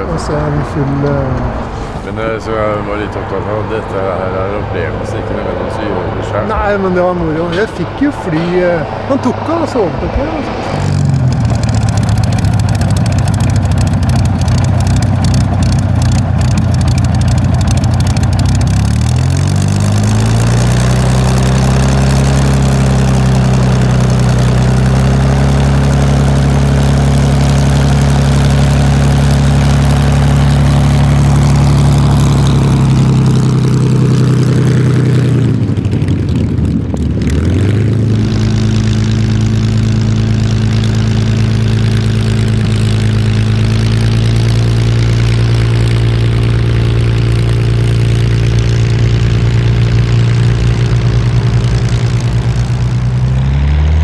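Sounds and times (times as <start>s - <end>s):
aircraft engine running: 0.0s - 54.0s.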